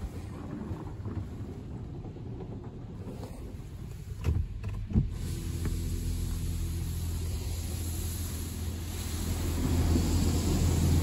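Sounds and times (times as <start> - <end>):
car wash spraying foam and water: 0.0 - 11.0.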